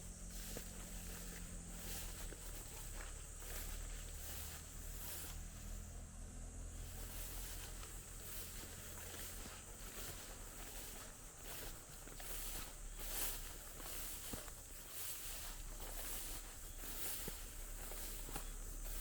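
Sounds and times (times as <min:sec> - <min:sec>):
footsteps through vegetation: 0:00.0 - 0:06.0, 0:06.6 - 0:19.0.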